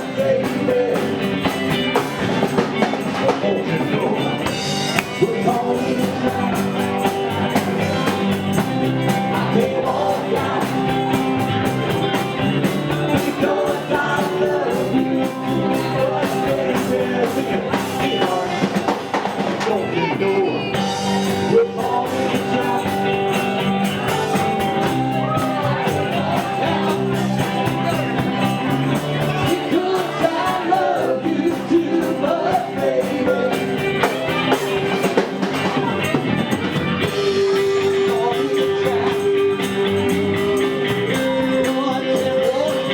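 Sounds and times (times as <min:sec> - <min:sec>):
person singing: 0:00.0 - 0:42.9
rock band playing: 0:00.0 - 0:42.9.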